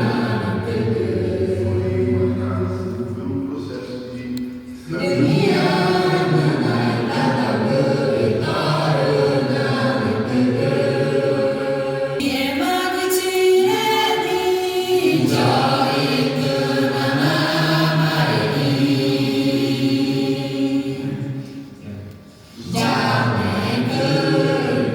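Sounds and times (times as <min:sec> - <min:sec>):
choir singing held notes: 0:00.0 - 0:24.9.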